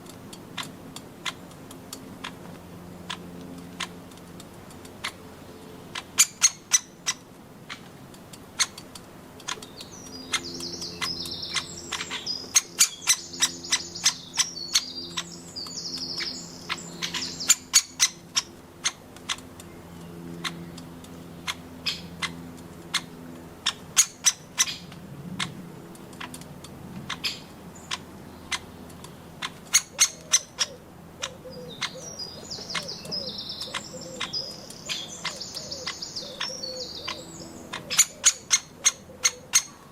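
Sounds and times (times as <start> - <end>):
high chattering bird calls: 5.0 - 7.9, 8.5 - 39.9.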